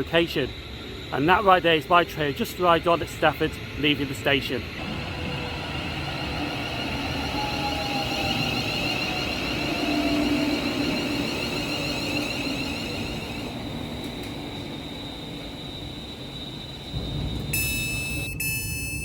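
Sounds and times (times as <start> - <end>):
train traction motors whining: 0.0 - 18.6
train running noise: 0.0 - 19.0.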